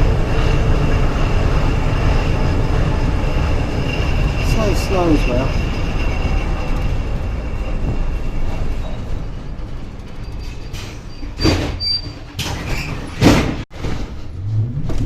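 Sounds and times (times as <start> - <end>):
tram rumbling: 0.0 - 15.0
high squeal: 0.2 - 13.1.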